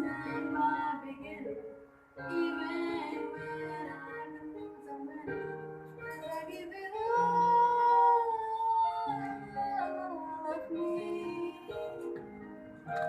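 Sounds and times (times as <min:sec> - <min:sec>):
music with singing voice: 0:00.0 - 0:13.0.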